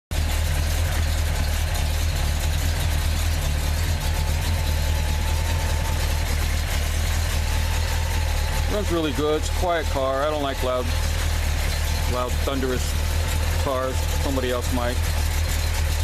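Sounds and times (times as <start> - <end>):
car engine idling: 0.1 - 16.0.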